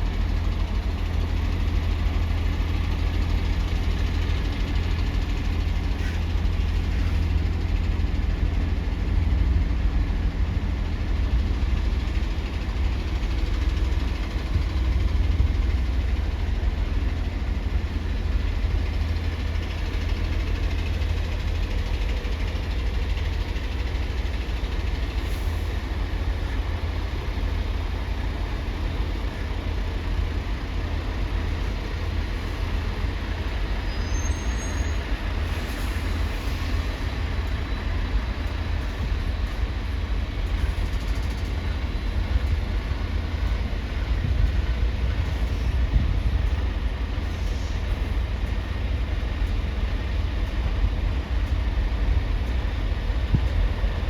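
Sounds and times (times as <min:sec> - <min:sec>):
heavy vehicle engines rumbling: 0:00.0 - 0:54.0.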